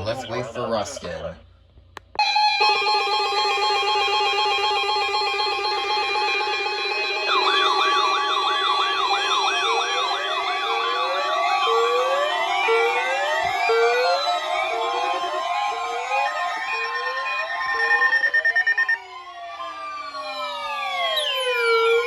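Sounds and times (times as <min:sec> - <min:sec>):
fast wavering siren wail: 0:02.2 - 0:22.0
rising whoop siren: 0:02.2 - 0:22.0
steady multi-pitch alarm tone: 0:02.2 - 0:22.0.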